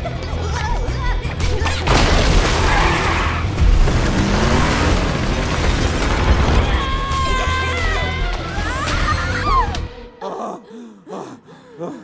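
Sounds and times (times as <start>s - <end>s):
film music: 0.0s - 12.0s.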